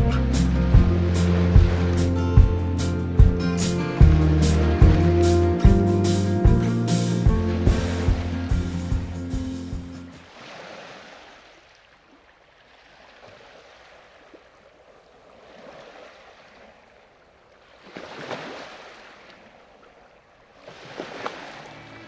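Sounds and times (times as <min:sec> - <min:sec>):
water washing in swells: 0:00.0 - 0:22.0.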